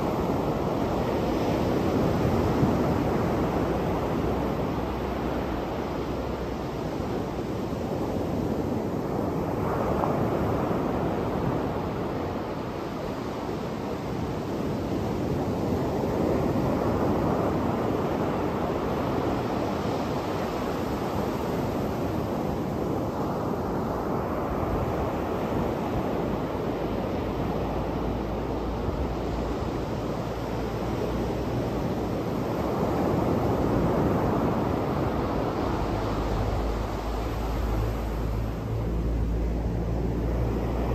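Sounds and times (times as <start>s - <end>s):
surf breaking on beach: 0.0s - 40.9s.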